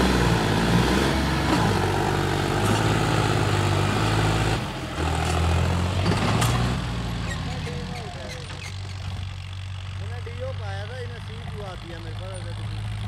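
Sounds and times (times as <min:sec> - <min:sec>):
tractor diesel engine running hard: 0:00.0 - 0:13.0.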